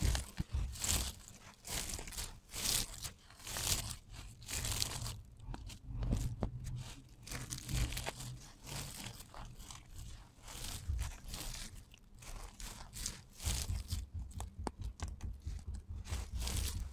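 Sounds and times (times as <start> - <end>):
hands crushing crispy soap: 0.0 - 16.9
soap shavings sifting: 0.0 - 16.9.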